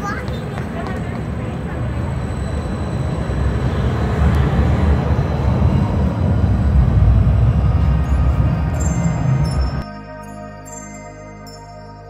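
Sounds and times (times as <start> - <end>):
light-rail train rumbling past: 0.0 - 9.8.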